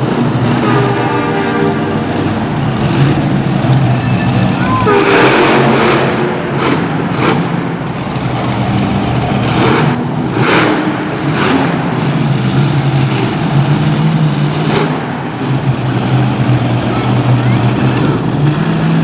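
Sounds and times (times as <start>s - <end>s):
engine throttle surges: 0.0s - 19.0s
truck engine droning: 0.0s - 19.0s.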